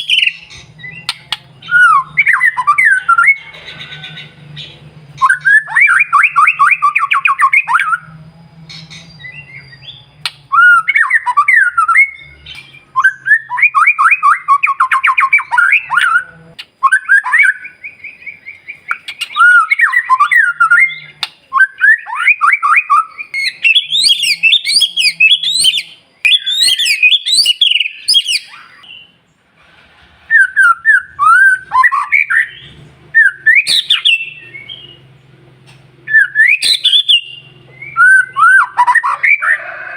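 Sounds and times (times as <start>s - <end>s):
bird singing trilled phrases: 0.0s - 29.3s, 30.4s - 35.4s, 36.0s - 39.6s.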